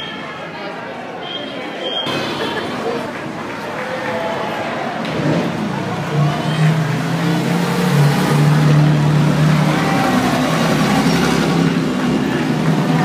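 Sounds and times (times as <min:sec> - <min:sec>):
racing car engines passing: 0:02.1 - 0:13.0.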